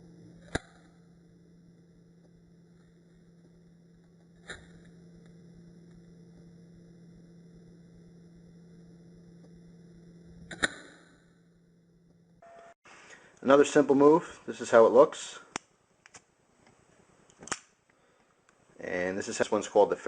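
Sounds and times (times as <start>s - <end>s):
low electrical hum with whine: 0.0s - 20.0s.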